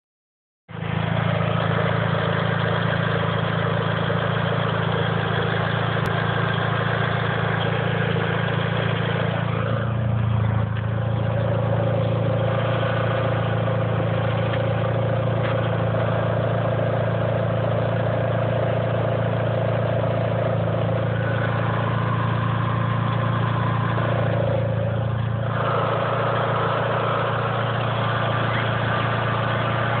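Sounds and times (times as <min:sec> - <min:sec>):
car engine idling: 0:00.7 - 0:30.0
engine ticking: 0:00.7 - 0:30.0
noise from under car: 0:00.7 - 0:30.0.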